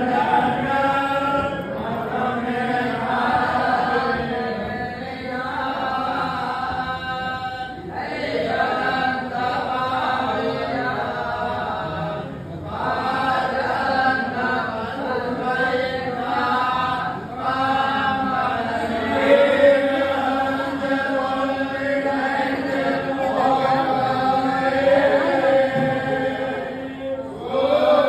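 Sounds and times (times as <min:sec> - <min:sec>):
men chanting a hymn: 0:00.0 - 0:28.0.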